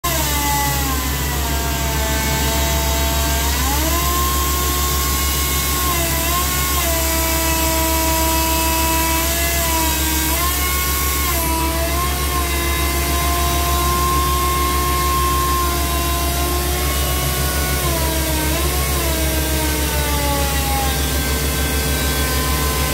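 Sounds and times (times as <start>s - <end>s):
drilling rig engine drone: 0.0s - 22.9s
compressor whine changing pitch: 0.1s - 22.9s.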